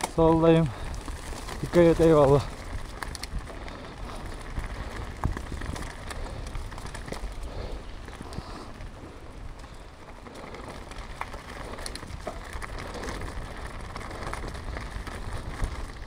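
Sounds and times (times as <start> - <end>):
bike clicks and rattles: 0.0 - 16.0
bike tyres crackling on track: 0.0 - 16.0
wind buffeting microphone: 0.0 - 16.0.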